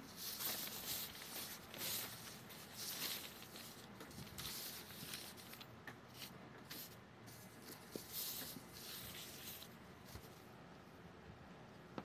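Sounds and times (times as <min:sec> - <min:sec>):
thin paper rustling: 0:00.0 - 0:10.4
low hiss: 0:00.0 - 0:12.0.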